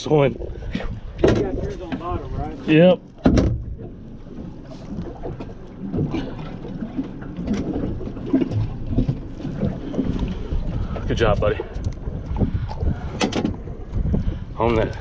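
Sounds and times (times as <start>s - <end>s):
low wind and water rumble: 0.0s - 15.0s.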